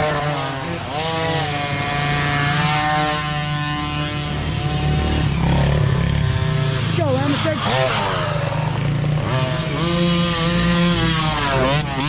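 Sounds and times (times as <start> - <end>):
deeper engine approaching: 0.0 - 12.0
small dirt bike engines revving: 0.0 - 12.0.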